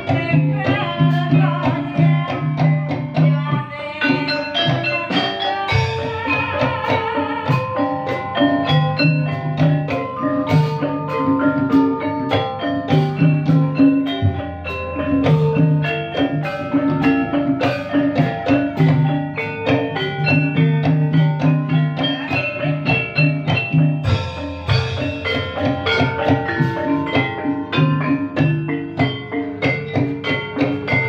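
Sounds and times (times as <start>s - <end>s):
drums: 0.0s - 31.0s
mallet-struck keyed percussion: 0.0s - 31.0s.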